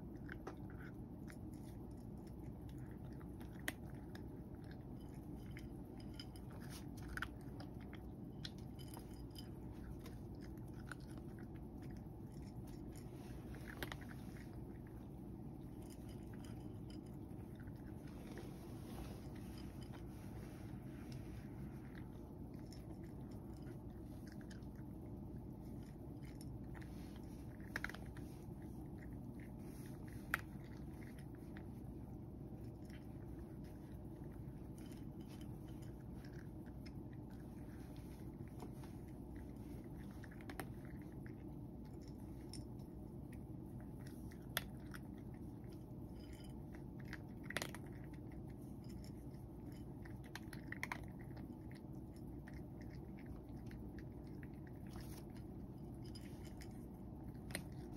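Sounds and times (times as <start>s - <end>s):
cat chewing food: 0.0s - 57.9s
steady low hum: 0.0s - 57.9s.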